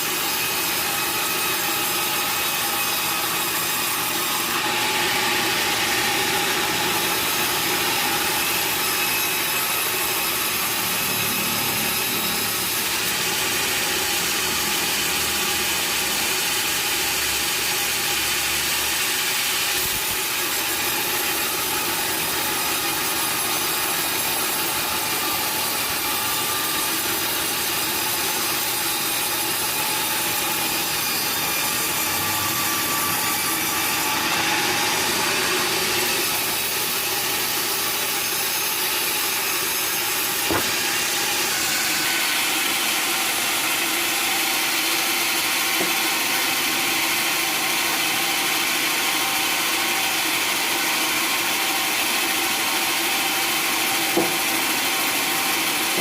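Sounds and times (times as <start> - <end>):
saw cutting wood: 0.0 - 56.0.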